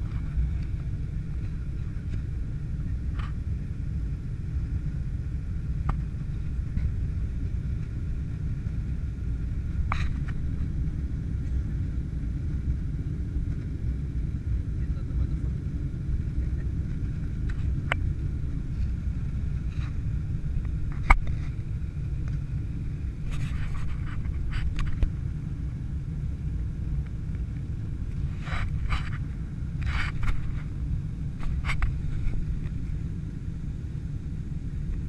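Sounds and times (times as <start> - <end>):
jet engine roar in cabin: 0.0 - 35.0.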